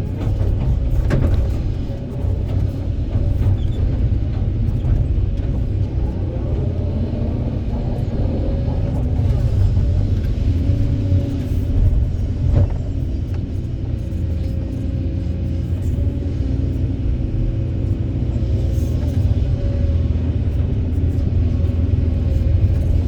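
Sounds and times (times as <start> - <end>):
excavator diesel engine rumbling: 0.0 - 23.0.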